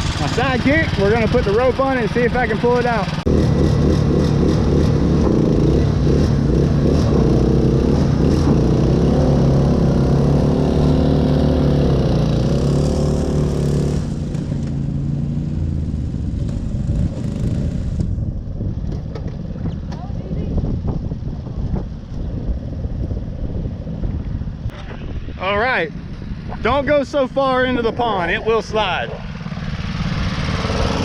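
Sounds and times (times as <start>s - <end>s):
riding lawn mower engine: 0.0s - 18.3s, 20.8s - 31.0s.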